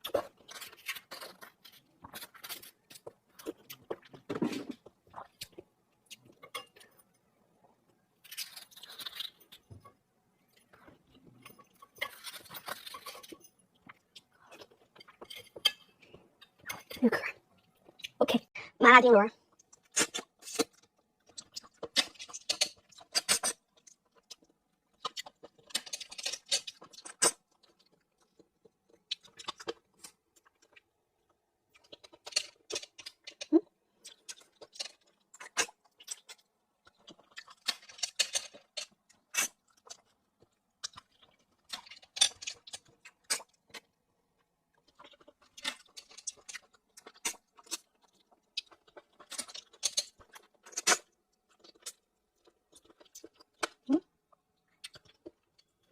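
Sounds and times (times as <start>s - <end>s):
chewing: 0.0s - 7.1s, 8.2s - 18.2s, 19.5s - 55.9s.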